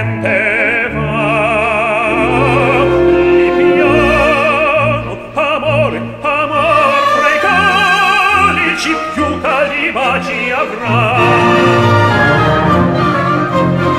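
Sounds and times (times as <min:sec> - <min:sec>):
operatic singing: 0:00.0 - 0:13.9
orchestral accompaniment: 0:00.0 - 0:13.9.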